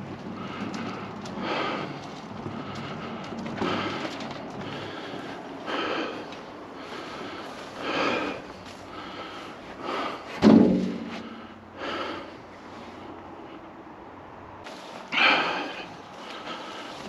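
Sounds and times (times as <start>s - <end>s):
person breathing hard: 0.1s - 17.0s.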